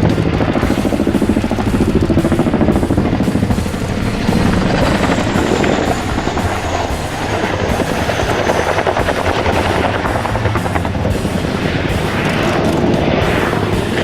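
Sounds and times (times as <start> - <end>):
faint turbine whine: 0.0 - 14.0
helicopter rotors chopping: 0.0 - 14.0.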